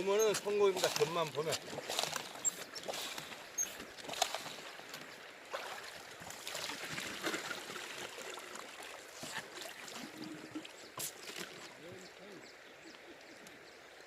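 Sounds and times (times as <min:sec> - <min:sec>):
river water trickling: 0:00.0 - 0:14.0.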